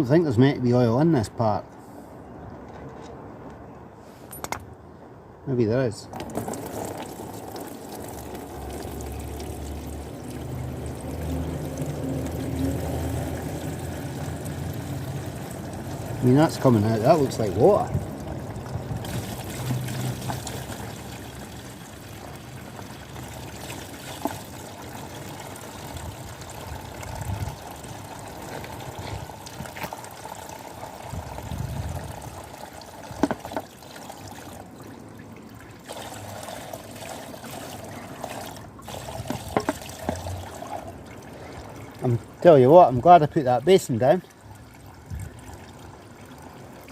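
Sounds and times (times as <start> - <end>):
oil trickling into a basin: 6.1 - 46.9.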